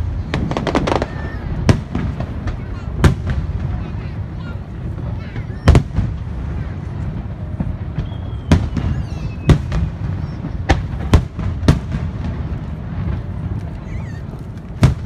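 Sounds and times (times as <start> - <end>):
continuous low rumble: 0.0 - 15.0
firework shells booming: 0.0 - 15.0.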